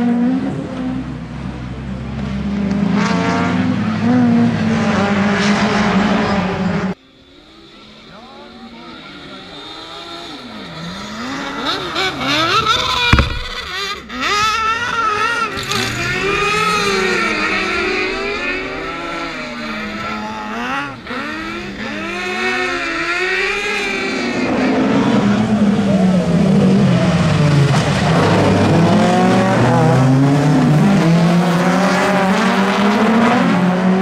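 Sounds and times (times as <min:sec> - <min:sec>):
racing car engines revving: 0:00.0 - 0:34.0.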